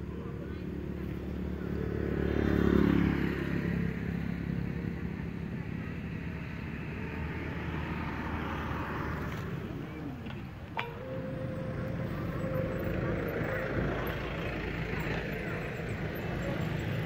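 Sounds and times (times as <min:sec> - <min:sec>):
motor vehicle engine running: 0:00.0 - 0:17.0.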